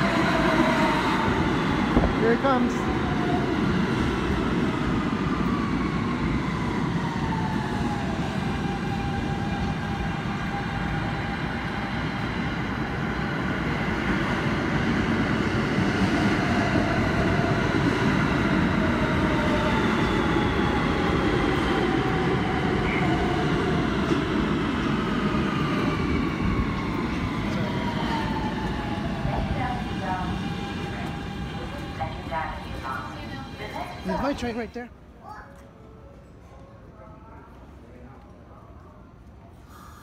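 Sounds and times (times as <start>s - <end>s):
subway train rumbling: 0.0s - 40.0s.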